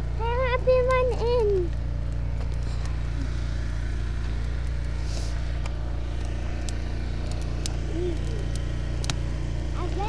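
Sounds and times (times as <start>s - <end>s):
low motor-like hum: 0.0s - 10.0s
wood fire crackling: 0.0s - 10.0s.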